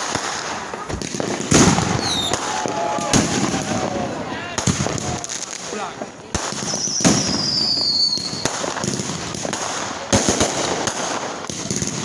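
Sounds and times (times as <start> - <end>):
fireworks bangs and crackling: 0.0 - 12.0
whistling firework: 0.0 - 12.0.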